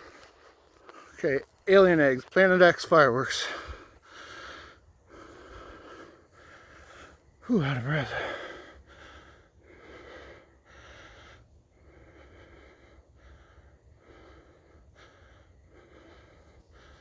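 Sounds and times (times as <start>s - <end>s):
man breathing hard: 3.3s - 17.0s.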